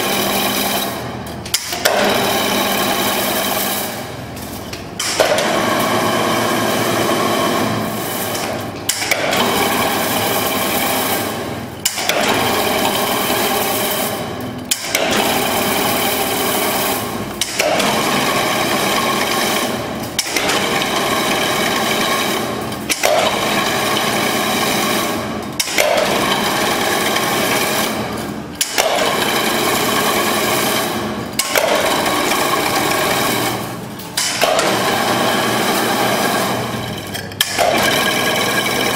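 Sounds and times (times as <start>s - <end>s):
weaving machine whirring and rattling: 0.0s - 38.9s.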